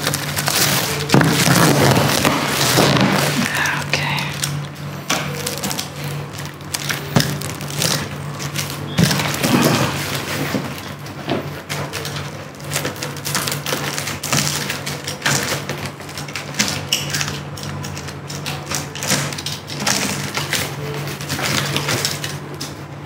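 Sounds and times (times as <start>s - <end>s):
plastic wrap crinkling: 0.0s - 23.0s.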